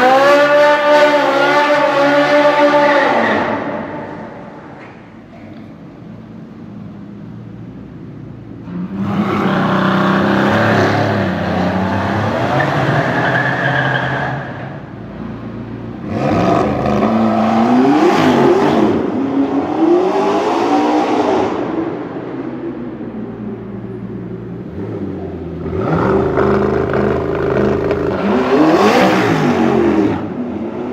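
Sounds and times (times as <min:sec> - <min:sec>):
car engines accelerating hard: 0:00.0 - 0:04.6, 0:08.4 - 0:30.9.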